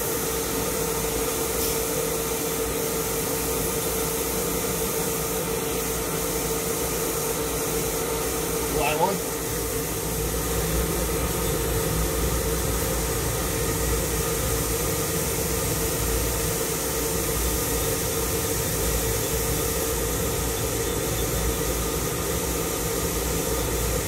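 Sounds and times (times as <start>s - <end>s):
lathe hum and hiss: 0.0s - 24.0s
mid-pitched machine whine: 0.0s - 24.0s.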